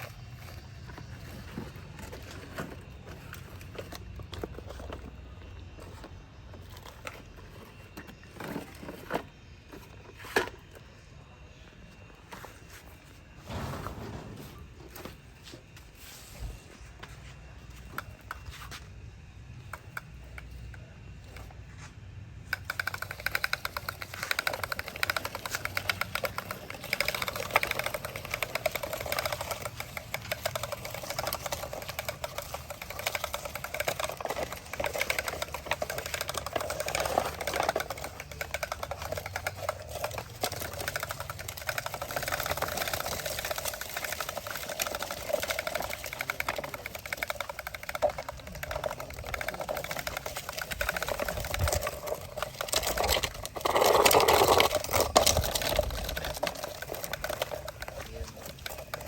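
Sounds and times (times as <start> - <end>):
toy motor whirring and clicking: 0.0 - 11.0, 22.4 - 59.0.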